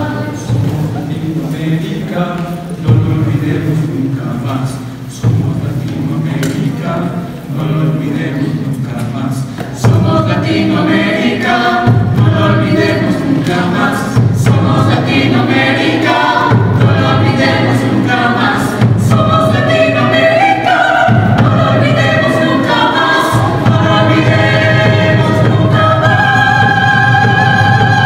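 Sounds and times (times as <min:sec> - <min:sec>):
mixed choir singing harmony: 0:00.0 - 0:28.0.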